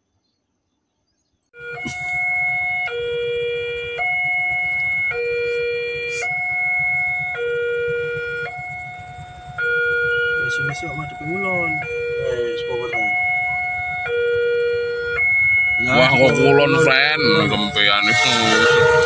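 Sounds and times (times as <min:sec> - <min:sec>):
electronic two-tone warning alarm: 0:01.6 - 0:19.0
steady low rumble: 0:01.6 - 0:19.0.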